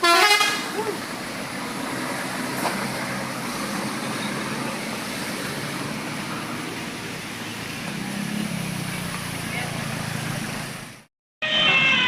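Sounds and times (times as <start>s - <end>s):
bus engine running: 0.0s - 11.1s
tyre and road noise: 0.0s - 12.0s.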